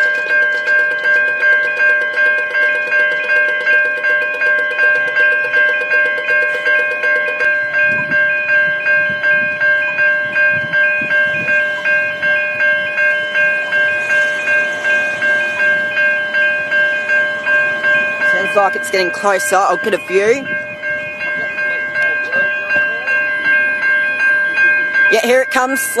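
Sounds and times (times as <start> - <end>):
level crossing bell ringing: 0.0 - 26.0
train rumbling: 0.0 - 26.0.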